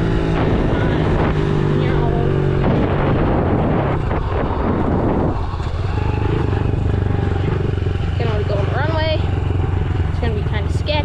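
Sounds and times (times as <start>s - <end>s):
dirt bike engine running: 0.0s - 11.0s
noisy rush: 0.0s - 11.0s.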